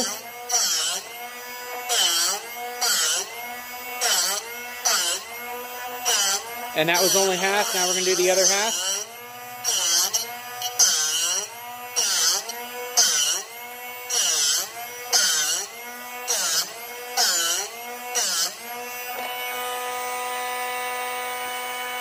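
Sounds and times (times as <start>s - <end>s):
drill bit grinding strokes: 0.0s - 22.0s
sharpener motor running: 0.0s - 22.0s.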